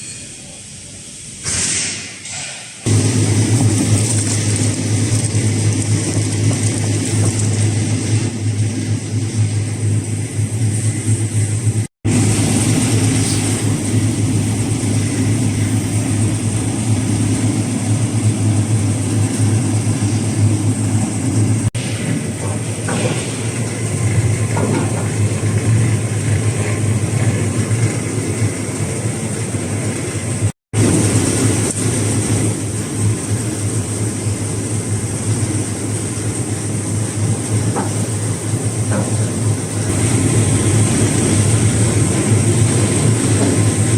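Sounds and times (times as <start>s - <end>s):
brush rollers rumbling: 2.9s - 43.9s
machine motor hum: 2.9s - 43.9s.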